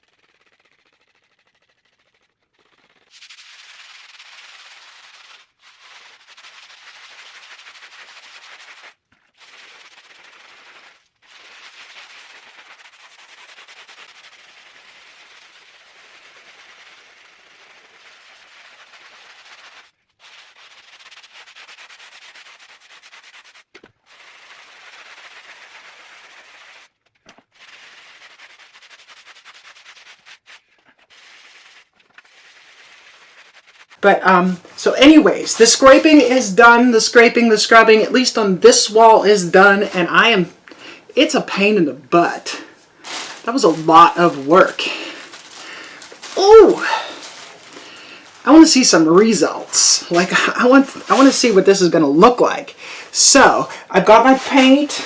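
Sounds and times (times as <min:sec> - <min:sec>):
scrub brush rasping on concrete: 0:00.0 - 0:55.0.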